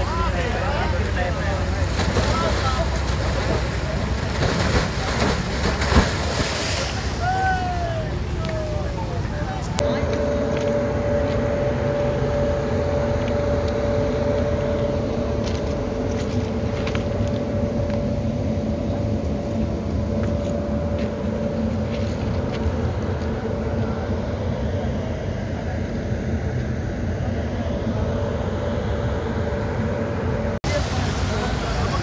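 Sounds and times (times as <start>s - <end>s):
machine hum with steady tones: 0.0s - 32.0s.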